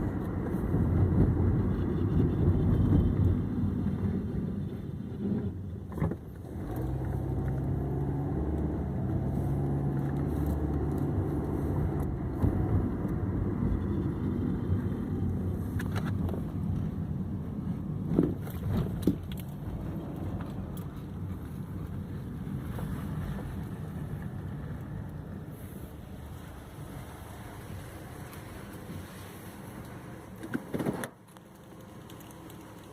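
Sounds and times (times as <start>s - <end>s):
car running and road noise: 0.0s - 32.9s.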